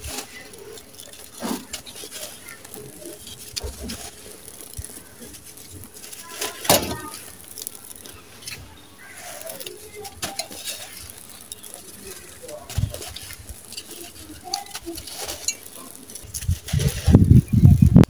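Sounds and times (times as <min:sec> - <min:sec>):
blocks crumbling in hands: 0:00.0 - 0:18.0
sand and grit pattering: 0:00.0 - 0:18.0.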